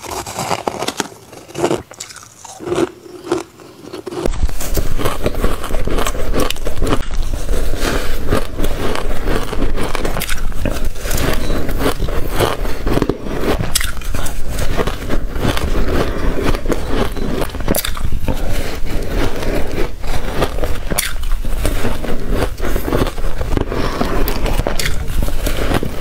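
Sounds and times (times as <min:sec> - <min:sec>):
crunching and chewing shaved ice: 0:00.0 - 0:26.0
plastic spoon scraping ice: 0:00.0 - 0:26.0.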